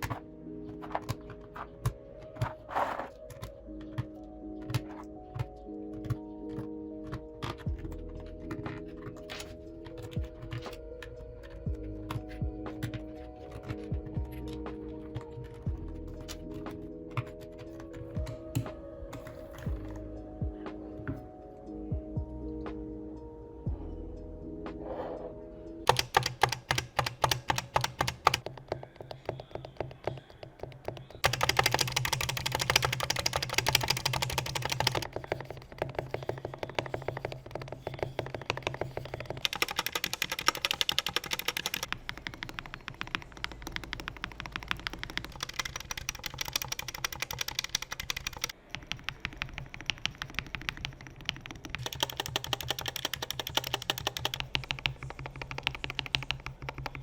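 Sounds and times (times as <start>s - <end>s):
fast keyboard typing: 0.0s - 20.1s, 25.8s - 57.0s.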